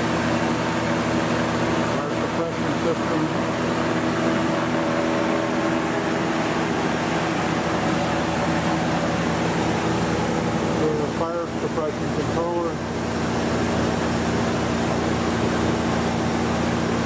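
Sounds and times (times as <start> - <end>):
machine hum with fan rush: 0.0 - 17.0.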